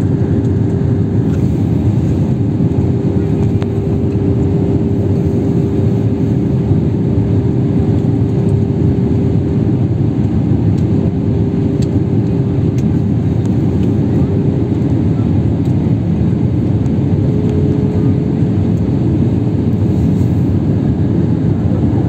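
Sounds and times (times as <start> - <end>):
airliner cabin engine rumble: 0.0 - 22.0.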